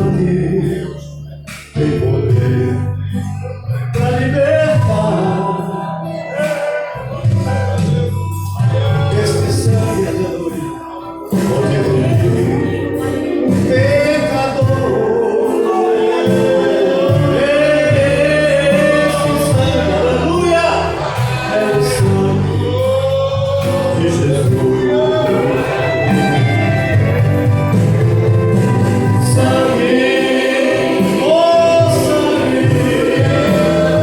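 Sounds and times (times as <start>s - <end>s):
instrumental backing: 0.0s - 34.0s
man singing gospel song: 0.0s - 34.0s.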